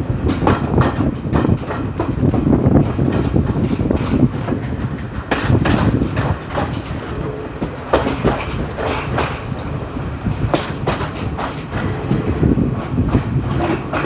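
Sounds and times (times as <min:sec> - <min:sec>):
train rumble: 0:00.0 - 0:14.0
wheels clacking over rails: 0:00.0 - 0:14.0.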